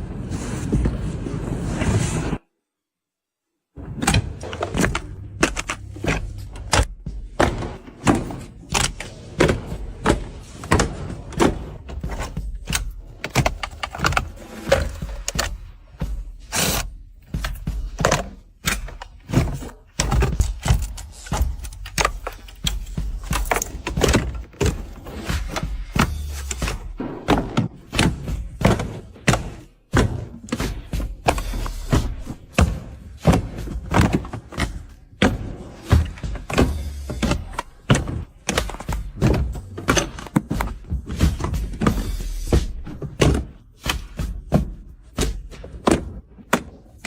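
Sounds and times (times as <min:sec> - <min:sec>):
irregular knocks and thuds: 0:04.0 - 0:16.3, 0:17.2 - 0:47.0.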